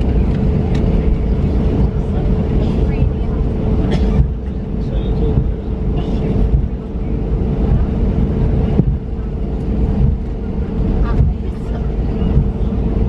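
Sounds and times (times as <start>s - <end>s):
airplane cabin rumble: 0.0s - 13.0s
constant hum: 0.0s - 13.0s.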